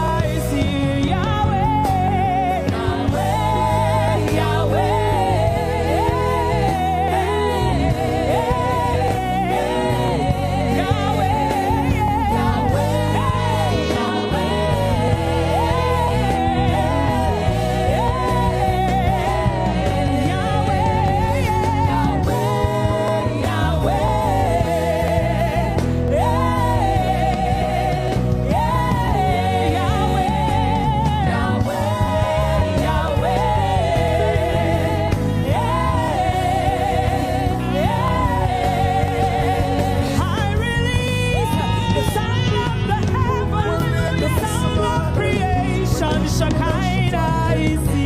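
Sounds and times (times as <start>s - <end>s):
instrumental backing: 0.0s - 48.0s.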